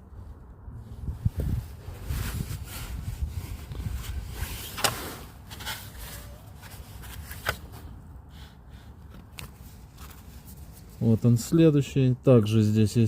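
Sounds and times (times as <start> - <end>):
low steady rumble: 0.0 - 12.2.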